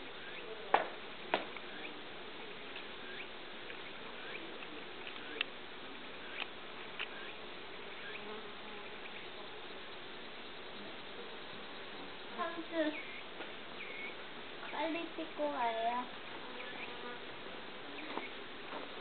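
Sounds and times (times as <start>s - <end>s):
bee buzzing: 1.6s - 19.0s.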